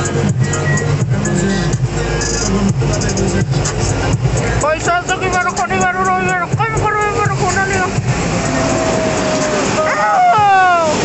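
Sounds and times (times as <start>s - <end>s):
music with melody over beat: 0.0s - 9.7s.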